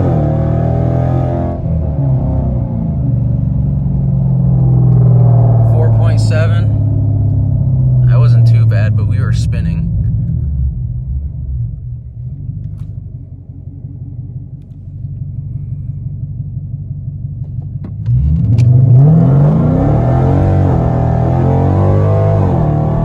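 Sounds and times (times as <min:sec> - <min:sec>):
car engine revving: 0:00.0 - 0:14.9, 0:17.5 - 0:23.0
car exhaust rumbling: 0:00.0 - 0:23.0.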